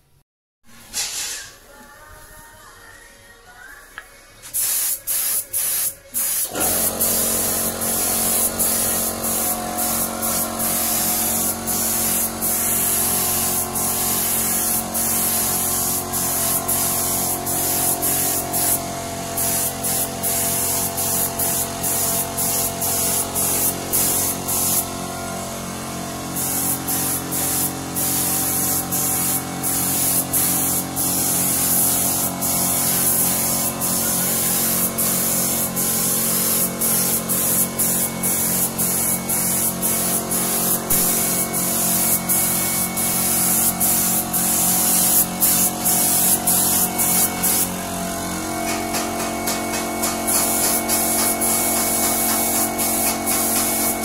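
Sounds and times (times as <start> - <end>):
spray gun hissing: 4.5 - 25.0, 26.3 - 54.0.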